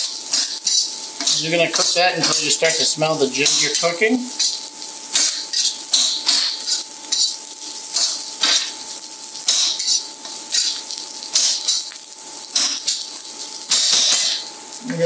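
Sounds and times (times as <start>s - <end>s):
utensil scraping a wok: 0.0s - 14.6s
food sizzling in hot oil: 0.0s - 15.0s.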